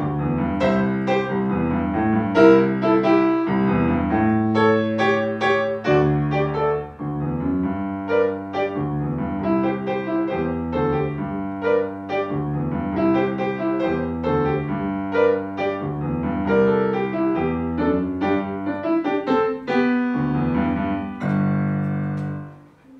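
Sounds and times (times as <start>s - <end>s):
solo grand piano: 0.0s - 22.9s.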